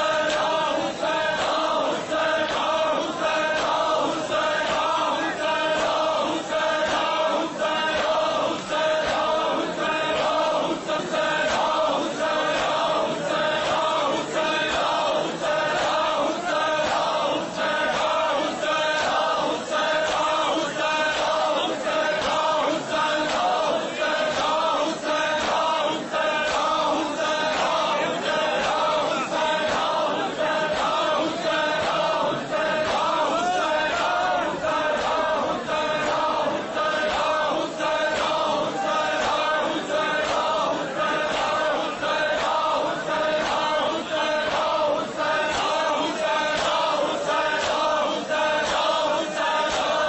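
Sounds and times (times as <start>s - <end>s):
men chanting in unison: 0.0s - 50.0s.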